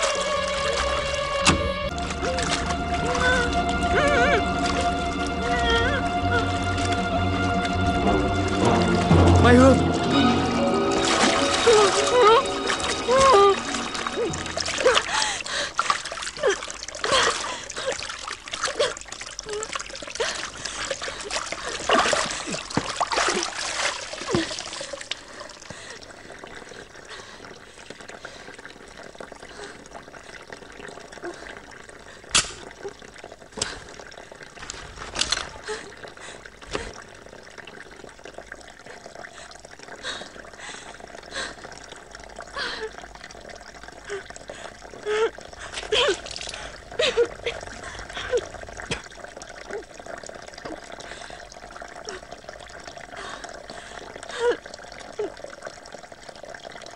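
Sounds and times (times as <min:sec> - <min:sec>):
water running in a bathtub: 0:00.0 - 0:56.9.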